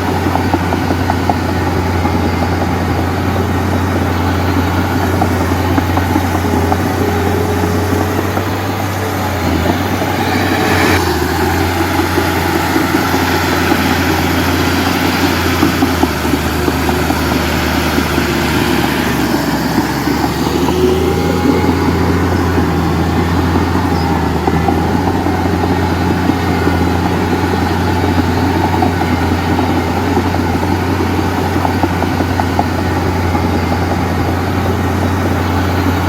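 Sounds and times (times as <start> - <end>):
heavy diesel engine humming: 0.0 - 36.0.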